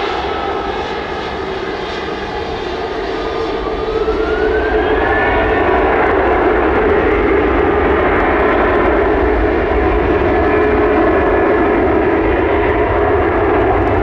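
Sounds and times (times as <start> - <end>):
jet engines roaring: 0.0 - 14.0
steady droning tone: 0.0 - 14.0.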